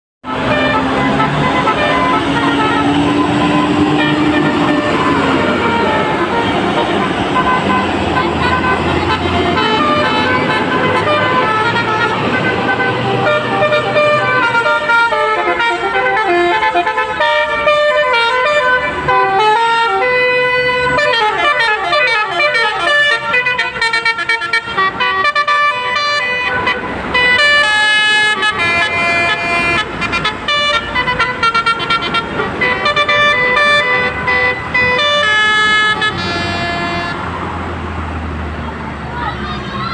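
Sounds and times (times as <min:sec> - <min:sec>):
multi-tone bus horn playing a tune: 0:00.2 - 0:37.4.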